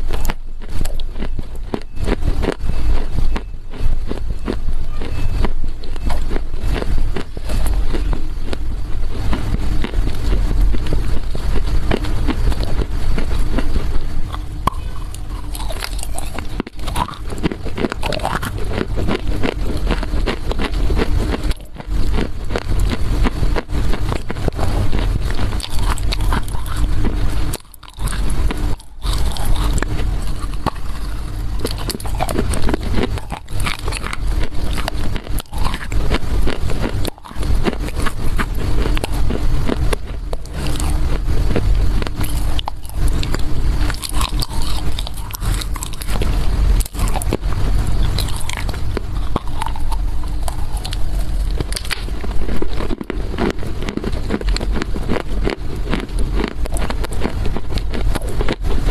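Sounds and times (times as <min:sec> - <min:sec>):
crunching and chewing clay: 0:00.0 - 0:58.9.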